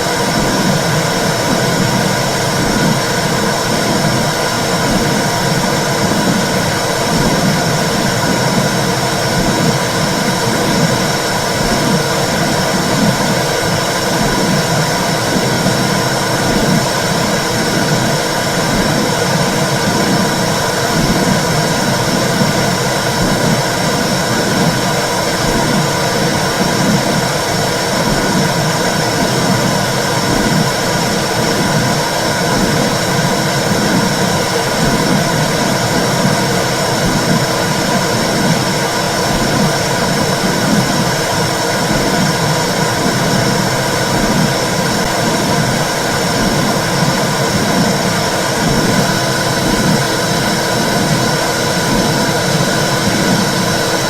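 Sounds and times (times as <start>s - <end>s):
pulsing low rumble: 0.0s - 54.0s
steady whooshing noise: 0.0s - 54.0s.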